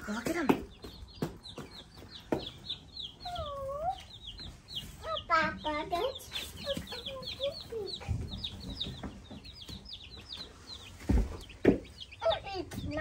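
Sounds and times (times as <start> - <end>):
baby chicks peeping: 0.0 - 13.0.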